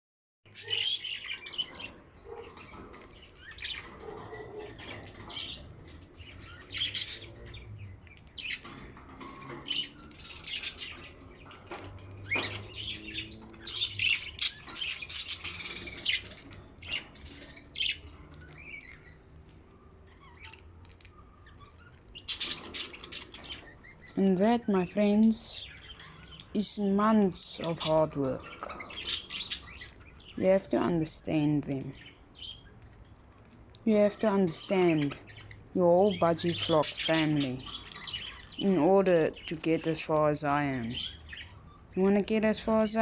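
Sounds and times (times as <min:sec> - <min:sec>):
budgerigars chirping and squawking: 0:00.5 - 0:43.0.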